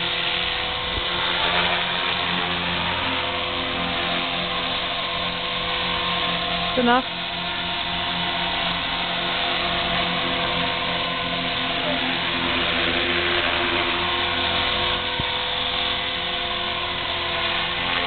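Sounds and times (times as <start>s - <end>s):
motor and gears whining: 0.0s - 18.0s
rotor buzzing: 0.0s - 18.0s.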